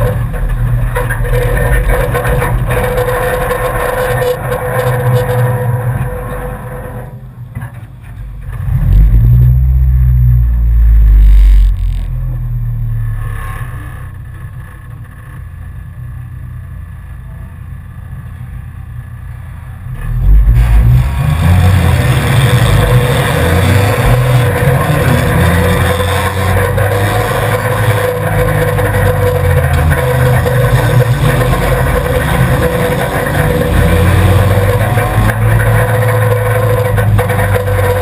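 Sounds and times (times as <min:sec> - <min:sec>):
race car engine running: 0:00.0 - 0:38.0.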